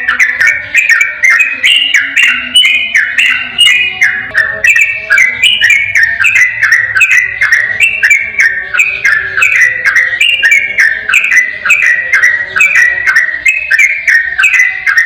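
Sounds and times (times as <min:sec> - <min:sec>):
bulbul whistled song: 0:00.0 - 0:15.0.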